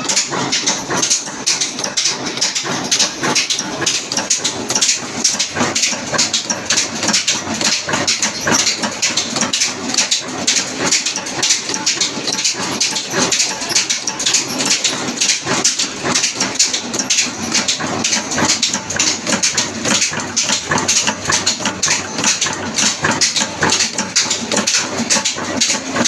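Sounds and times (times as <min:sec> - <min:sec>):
diesel engine clattering: 0:00.0 - 0:26.0.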